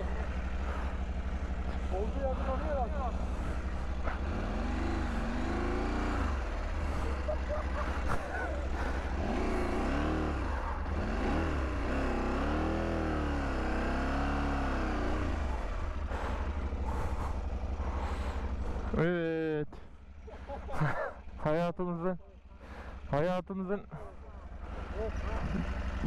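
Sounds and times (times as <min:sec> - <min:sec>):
motorcycle engine revving: 0:00.0 - 0:23.1, 0:23.8 - 0:26.0.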